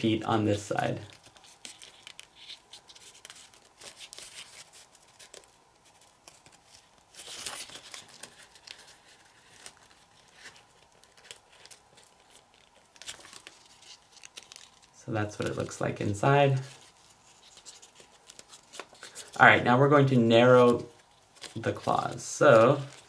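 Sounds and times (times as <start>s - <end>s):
paper crinkling and rustling: 0.0s - 23.0s.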